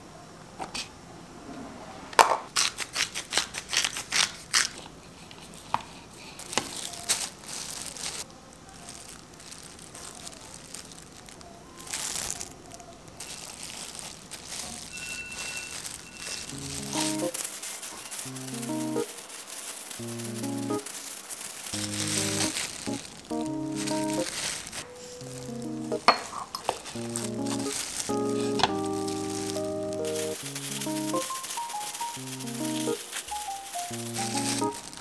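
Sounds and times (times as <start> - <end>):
plastic gloves crinkling: 2.5 - 35.0.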